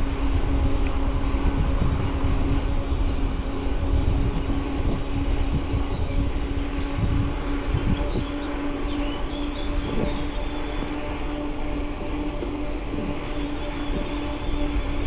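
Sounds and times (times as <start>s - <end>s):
steady hum: 0.0s - 15.0s
wind rumbling on microphone: 0.0s - 15.0s.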